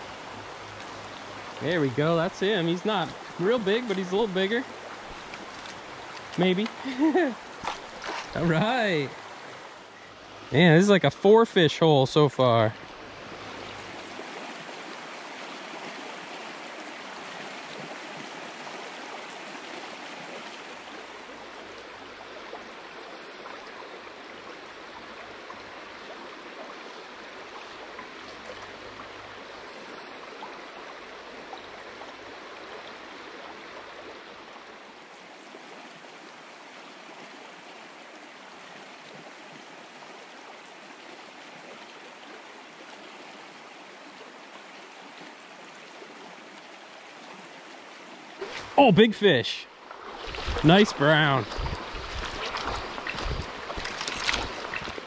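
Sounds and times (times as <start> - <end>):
stream flowing over stones: 0.0 - 55.0.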